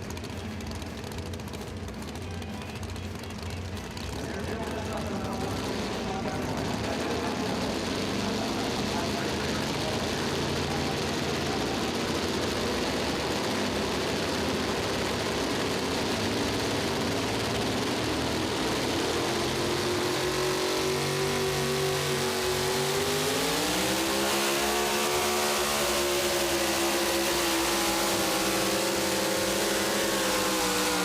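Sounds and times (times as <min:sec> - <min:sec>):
truck engine revving hard: 0:02.8 - 0:31.0.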